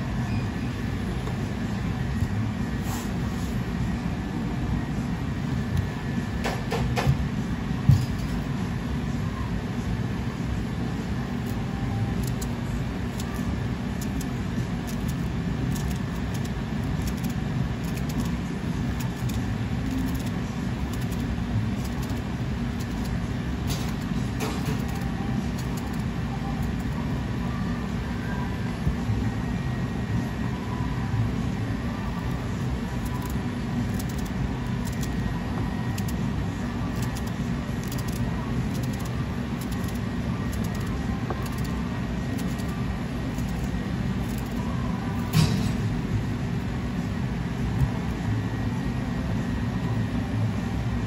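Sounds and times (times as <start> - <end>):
low rumble of kitchen machinery: 0.0 - 51.0.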